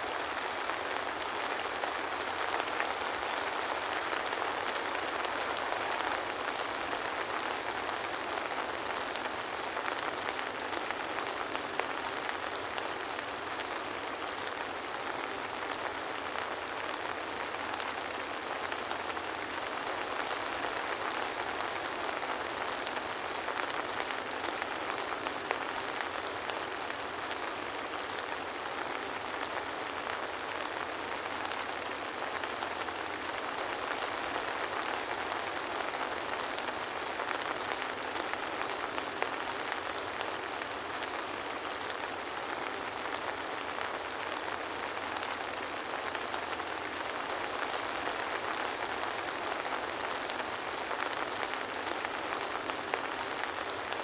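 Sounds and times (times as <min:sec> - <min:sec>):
soft rainfall: 0:00.0 - 0:54.0.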